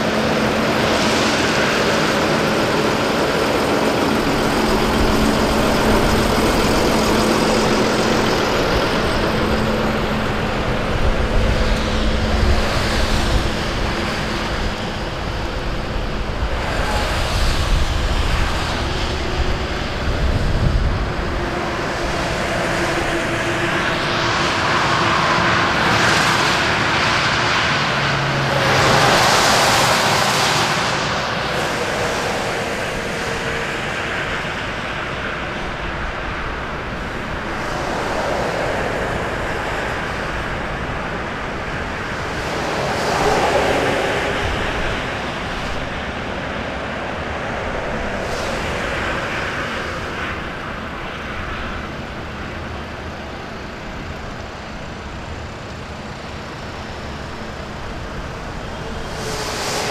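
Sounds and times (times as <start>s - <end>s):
vehicles driving on wet road: 0.0s - 59.9s
wind buffeting microphone: 0.0s - 59.9s.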